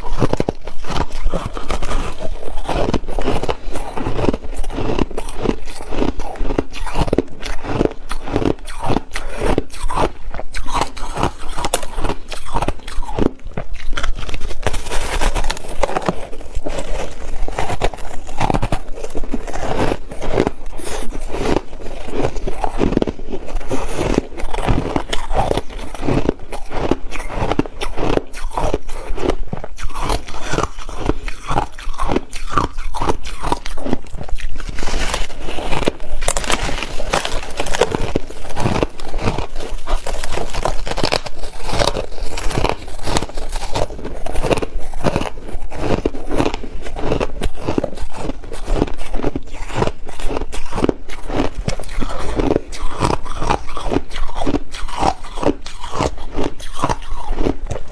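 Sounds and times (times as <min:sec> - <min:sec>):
ice being chewed: 0:00.0 - 0:57.9.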